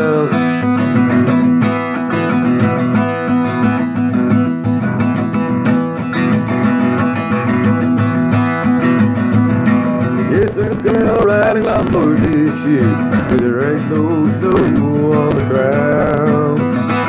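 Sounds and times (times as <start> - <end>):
guitar strumming: 0.0 - 17.0.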